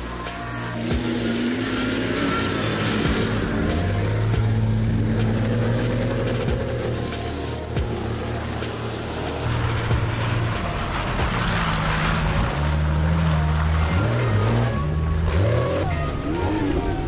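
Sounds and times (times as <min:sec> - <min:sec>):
vehicle engine running under load: 0:00.0 - 0:17.0.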